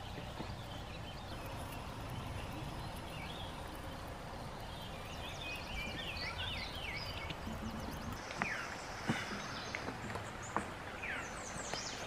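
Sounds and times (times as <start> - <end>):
outdoor background noise: 0.0 - 12.0
songbird chirping: 0.0 - 12.0.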